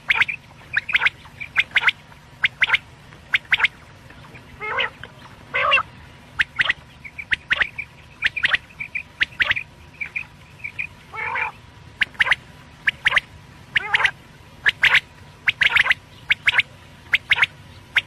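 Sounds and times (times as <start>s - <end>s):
faint steady hum: 0.0s - 18.0s
quail calling: 0.0s - 18.0s.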